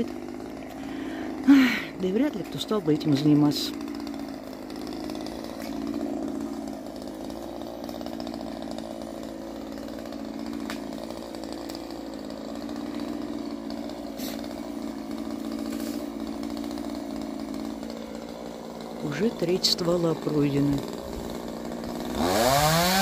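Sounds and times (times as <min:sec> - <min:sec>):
chainsaw cutting branches: 0:00.0 - 0:23.0.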